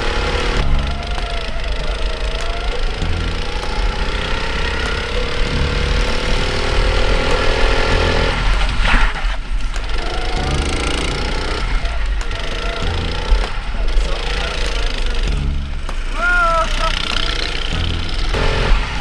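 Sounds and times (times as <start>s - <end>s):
go-kart engine accelerating: 0.0s - 19.0s.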